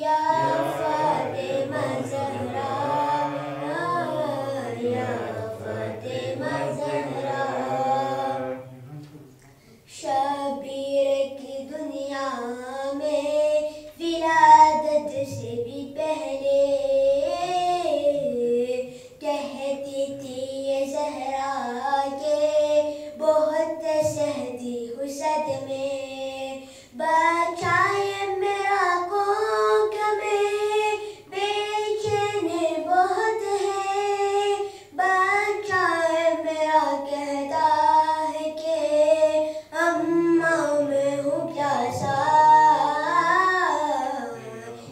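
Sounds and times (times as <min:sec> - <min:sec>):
boy singing a devotional chant: 0:00.0 - 0:08.8, 0:09.8 - 0:44.9.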